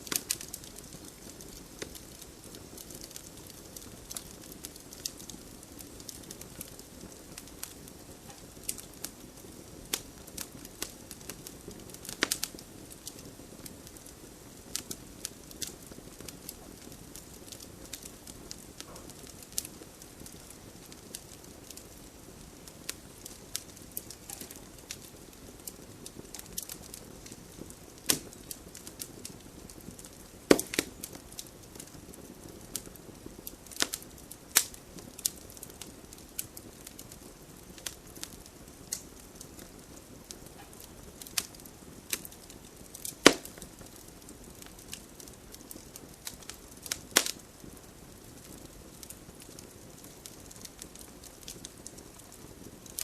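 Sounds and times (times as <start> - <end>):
campfire crackling: 0.0 - 53.0
loud snaps of burning wood: 0.0 - 53.0.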